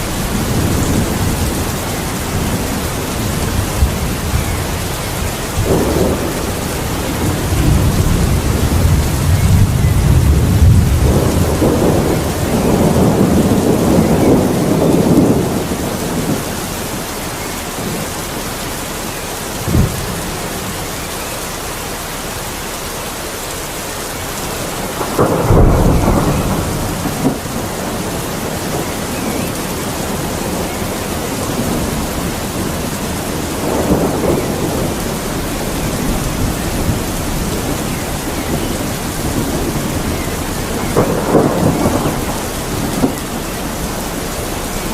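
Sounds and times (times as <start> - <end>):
steady rain: 0.0 - 44.9
thunder rumbling: 0.0 - 44.9.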